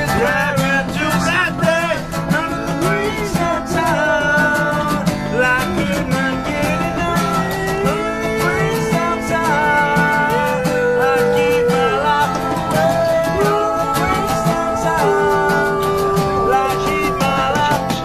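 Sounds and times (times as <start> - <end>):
acoustic guitar strumming: 0.0 - 18.0
men singing: 0.0 - 18.0.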